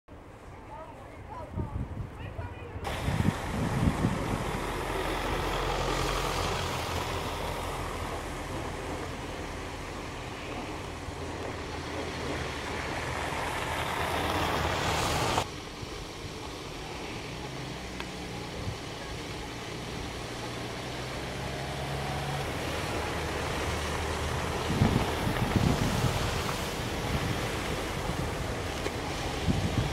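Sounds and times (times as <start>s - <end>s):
suv engine running: 2.9s - 29.9s
tyres churning slush: 2.9s - 29.9s
van engine whining: 2.9s - 29.9s.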